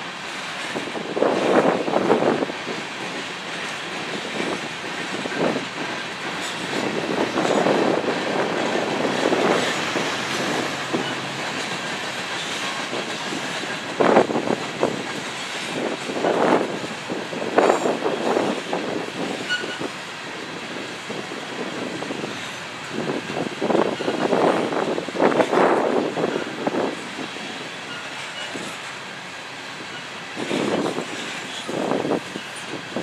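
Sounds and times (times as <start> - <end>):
train wheels clattering over rail joints: 0.2 - 33.0.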